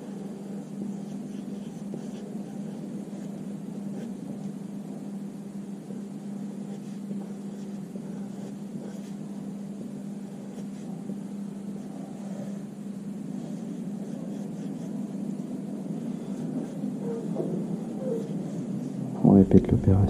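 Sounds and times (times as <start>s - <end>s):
pencil scratching on paper: 0.0s - 5.0s, 5.9s - 19.0s
steady low hum: 0.0s - 20.0s.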